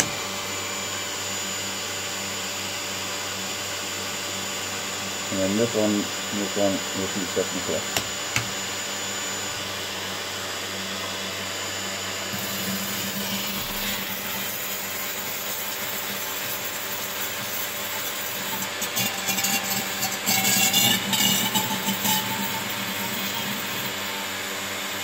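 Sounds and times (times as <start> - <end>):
cooling fan motors whirring: 0.0 - 3.2, 4.1 - 25.0.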